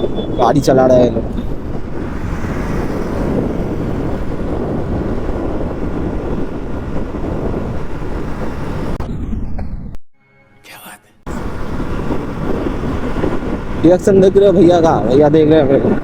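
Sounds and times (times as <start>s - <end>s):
road noise: 0.0s - 9.0s, 10.4s - 16.0s
wind rushing over microphone: 0.0s - 10.0s, 11.3s - 16.0s.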